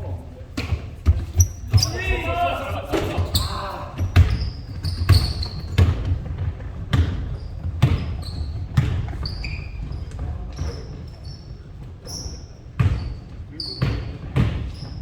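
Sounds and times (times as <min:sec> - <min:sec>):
sneakers squeaking on court: 0:00.5 - 0:15.0
basketballs bouncing on gym floor: 0:00.6 - 0:15.0.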